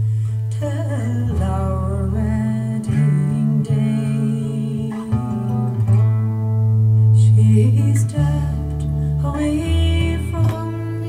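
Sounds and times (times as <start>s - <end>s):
plucked-string music over speakers: 0.0s - 11.0s.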